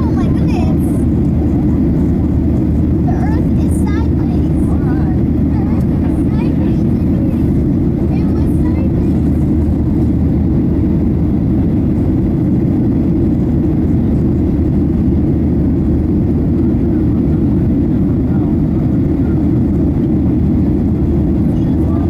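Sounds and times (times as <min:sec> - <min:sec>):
airflow over fuselage: 0:00.0 - 0:22.0
jet engines rumbling: 0:00.0 - 0:22.0.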